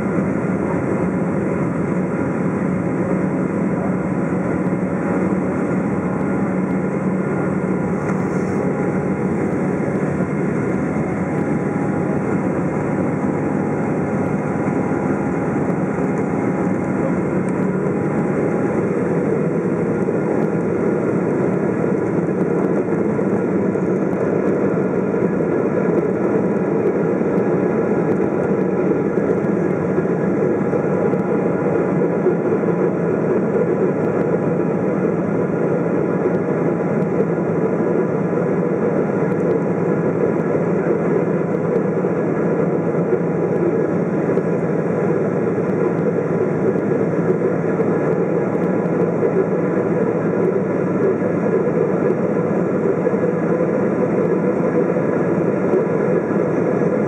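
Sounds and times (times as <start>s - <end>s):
jet cabin engine drone: 0.0s - 57.0s.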